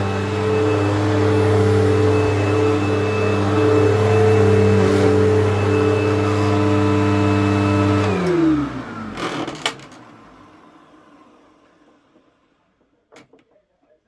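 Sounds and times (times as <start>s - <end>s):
vacuum cleaner running: 0.0s - 12.8s.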